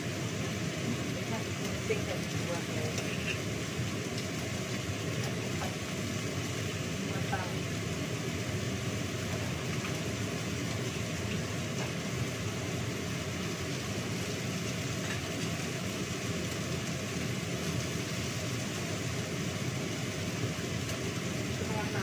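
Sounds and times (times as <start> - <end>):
range hood fan whirring: 0.0 - 22.0.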